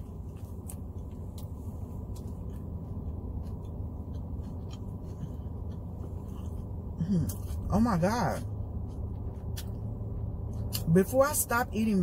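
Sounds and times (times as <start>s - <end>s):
person chewing: 0.0s - 7.7s, 8.4s - 10.9s
steady low hum: 0.0s - 12.0s.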